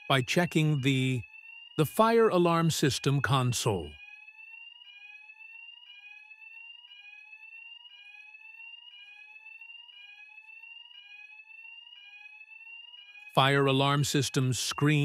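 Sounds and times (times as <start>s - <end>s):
fire alarm rising sweep: 0.0s - 15.0s.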